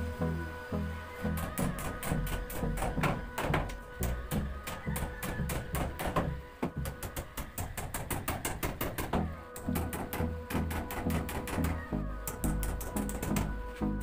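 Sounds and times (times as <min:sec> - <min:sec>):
background music with beat: 0:00.0 - 0:14.0.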